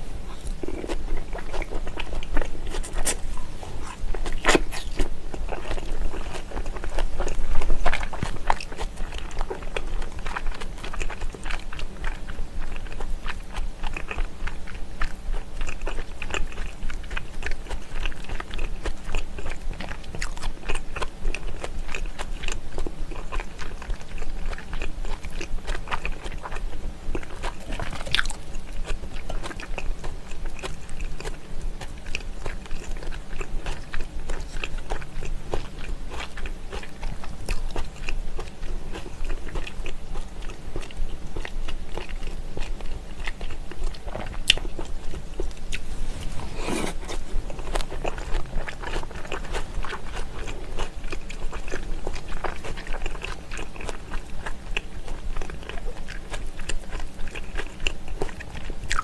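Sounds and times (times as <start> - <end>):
person chewing: 0.0 - 59.0.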